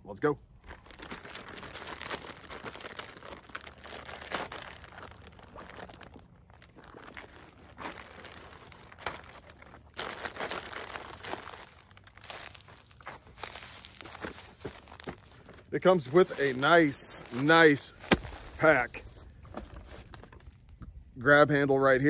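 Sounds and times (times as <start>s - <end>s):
plastic bag crinkling: 0.6s - 20.8s.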